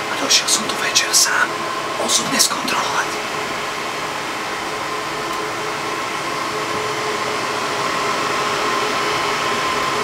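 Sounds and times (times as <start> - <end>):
faint steady whine: 0.0 - 10.0
server cooling fans rushing: 0.0 - 10.0.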